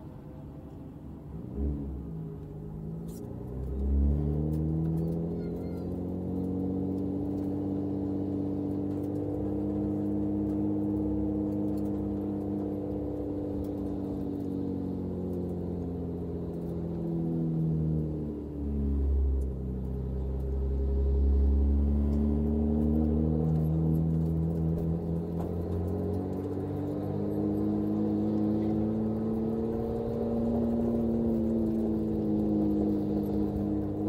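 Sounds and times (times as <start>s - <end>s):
car engine pulling under load: 0.7s - 34.0s
car engine revving: 1.3s - 34.0s.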